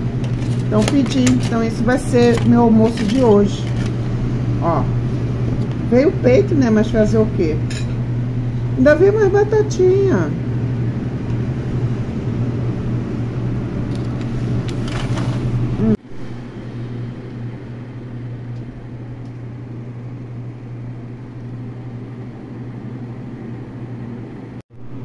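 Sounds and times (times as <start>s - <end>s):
electric appliance humming: 0.0s - 25.0s.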